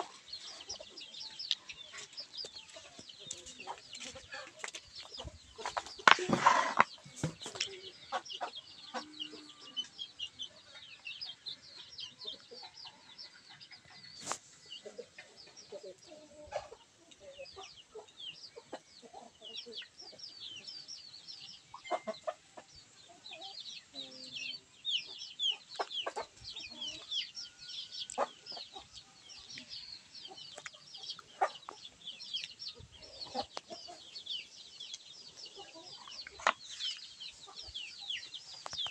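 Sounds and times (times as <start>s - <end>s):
chickens clucking: 0.0s - 38.9s
chicks peeping: 0.0s - 38.9s.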